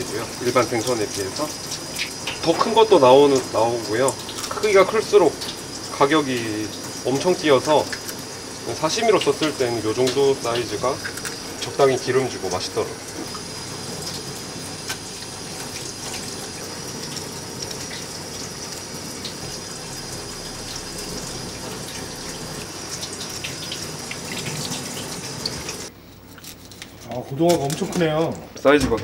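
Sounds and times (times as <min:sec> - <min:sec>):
kitchen tap running: 0:00.0 - 0:29.0.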